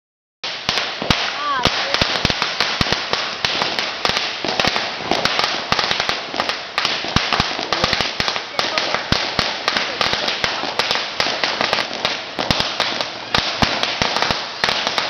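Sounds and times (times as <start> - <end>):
firecrackers crackling and banging: 0.4 - 15.0.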